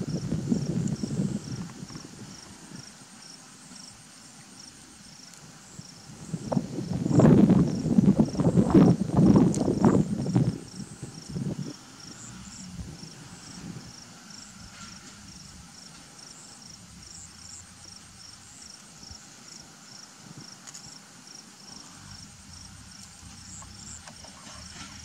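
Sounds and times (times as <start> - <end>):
faint outdoor rumble: 0.0 - 25.0
insects chirping: 0.0 - 25.0.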